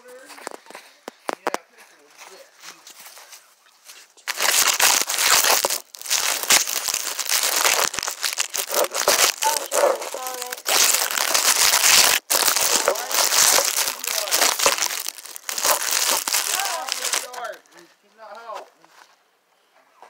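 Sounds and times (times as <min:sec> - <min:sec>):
dry leaves crackling on microphone: 0:00.0 - 0:18.6.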